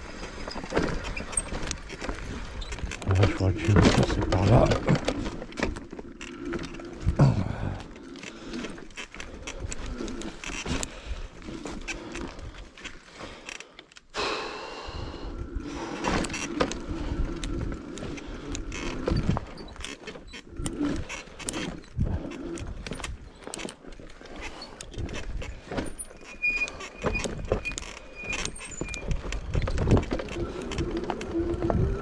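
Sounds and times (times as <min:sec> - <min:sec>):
bicycle rattling over rough trail: 0:00.0 - 0:14.2, 0:14.8 - 0:32.0.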